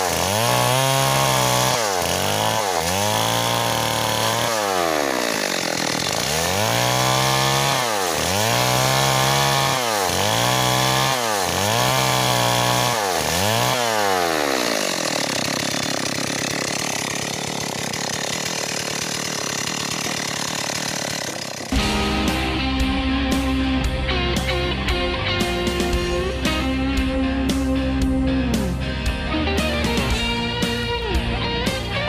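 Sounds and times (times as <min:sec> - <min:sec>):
chainsaw cutting log: 0:00.0 - 0:22.9, 0:25.3 - 0:28.8.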